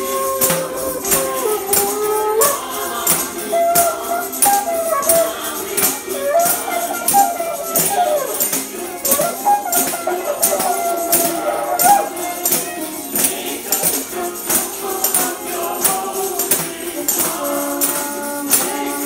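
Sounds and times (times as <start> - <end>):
tambourines jingling: 0.0 - 19.0.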